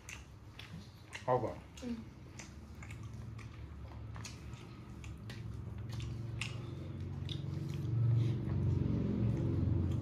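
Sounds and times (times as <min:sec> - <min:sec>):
low steady hum: 0:00.0 - 0:10.0
person chewing with mouth smacks: 0:00.0 - 0:10.0.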